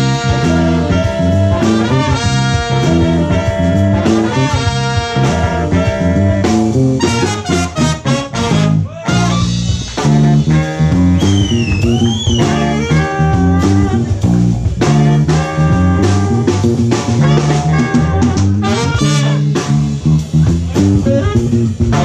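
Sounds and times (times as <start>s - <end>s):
busy bass line: 0.0s - 22.0s
drum kit: 0.0s - 22.0s
funk jazz band with horns: 0.0s - 22.0s.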